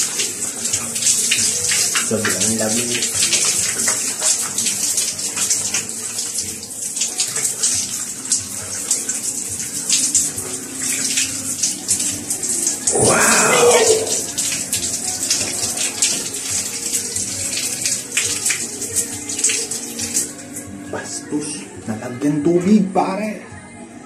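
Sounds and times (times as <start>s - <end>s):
shower water spraying and splashing: 0.0s - 13.0s, 13.6s - 20.7s.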